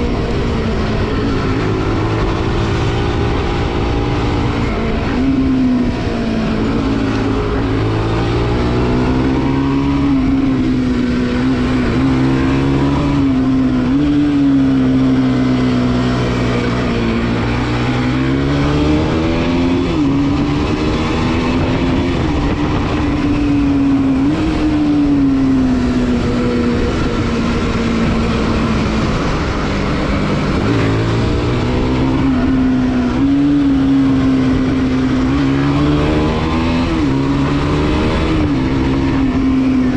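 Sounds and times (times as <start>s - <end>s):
motorcycle engine while riding: 0.0s - 39.9s
wind and road noise: 0.0s - 39.9s.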